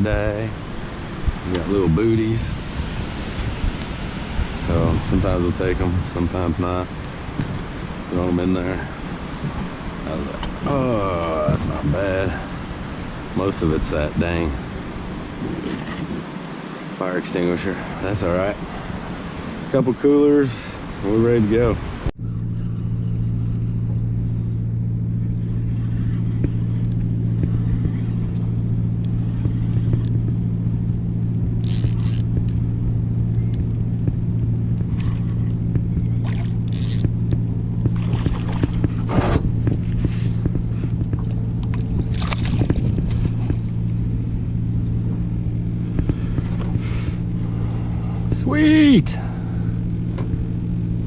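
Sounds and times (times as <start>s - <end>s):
engine droning steadily: 0.0s - 51.0s.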